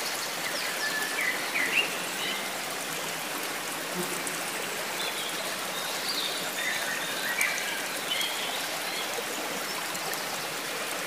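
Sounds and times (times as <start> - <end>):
stream water rushing and babbling: 0.0 - 11.0.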